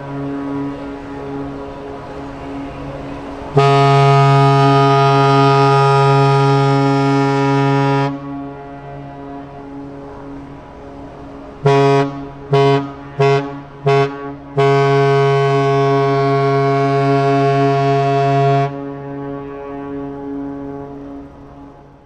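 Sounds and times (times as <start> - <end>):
ship's horn blasts: 0.0 - 22.0.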